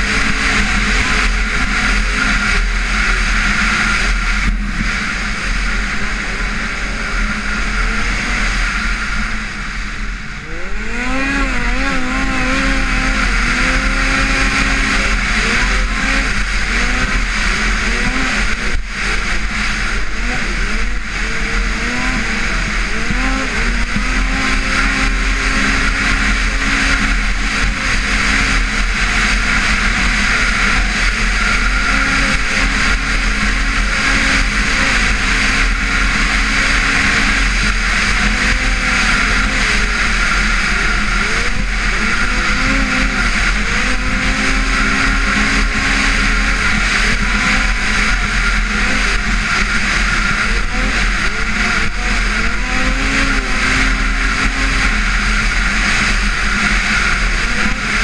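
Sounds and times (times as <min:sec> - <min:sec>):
snowmobile engine running hard: 0:00.0 - 0:58.0.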